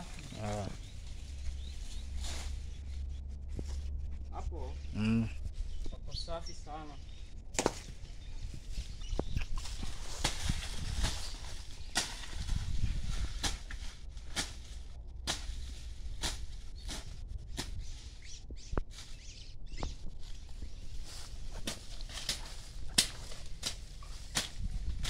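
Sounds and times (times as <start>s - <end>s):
footsteps through dry leaves: 0.0s - 4.0s, 7.6s - 19.4s, 20.0s - 25.0s
low rumble: 0.0s - 25.0s.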